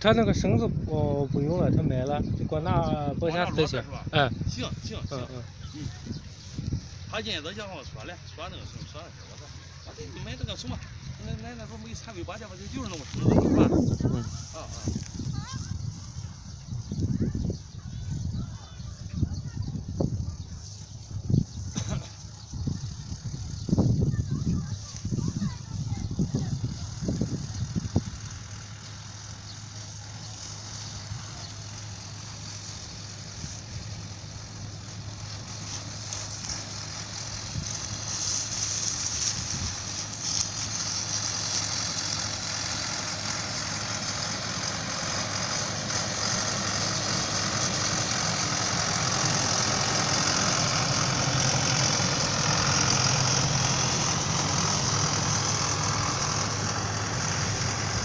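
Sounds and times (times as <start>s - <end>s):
tractor engine running: 1.9s - 58.0s
hay baler clattering hiss: 4.8s - 16.6s, 20.5s - 58.0s.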